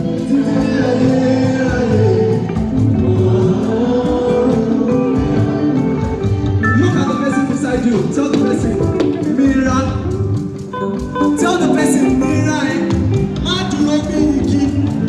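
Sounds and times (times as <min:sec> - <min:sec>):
song with beat: 0:00.0 - 0:15.0.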